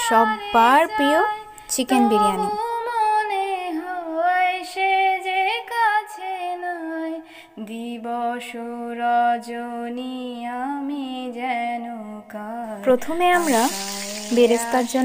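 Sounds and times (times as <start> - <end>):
woman singing slow melody: 0.0 - 15.0.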